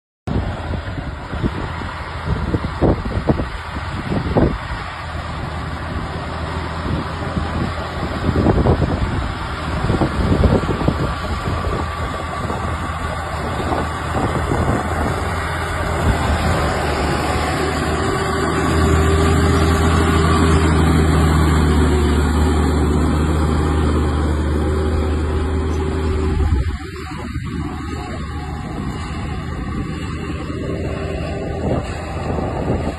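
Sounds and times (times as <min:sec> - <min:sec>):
tractor diesel engine under load: 0:00.3 - 0:32.9.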